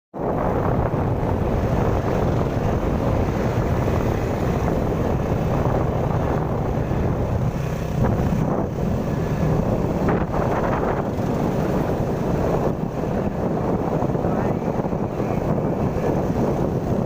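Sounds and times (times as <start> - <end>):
wind buffeting microphone: 0.1 - 17.0
vehicle engines rumbling: 0.2 - 17.0.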